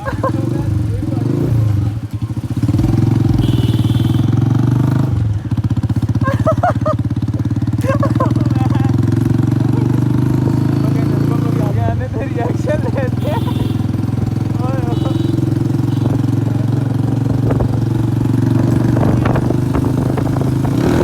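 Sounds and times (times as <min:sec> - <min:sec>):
motorcycle engine running loud: 0:00.0 - 0:21.0.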